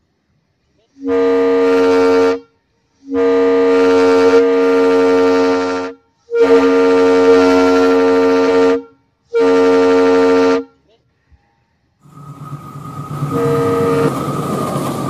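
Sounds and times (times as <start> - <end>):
train horn blasts: 1.0 - 10.8, 12.1 - 14.7.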